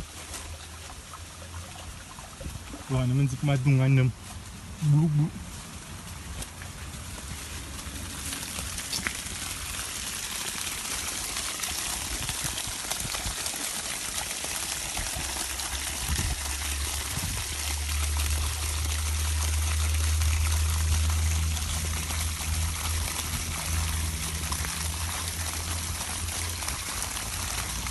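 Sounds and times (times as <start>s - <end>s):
water trickling and pouring: 0.0s - 4.5s, 5.8s - 27.9s.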